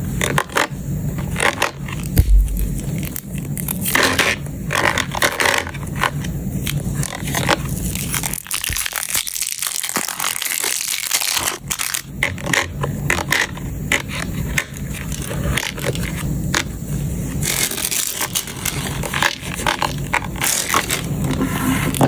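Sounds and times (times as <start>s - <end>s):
rustling plastic: 1.2s - 22.0s.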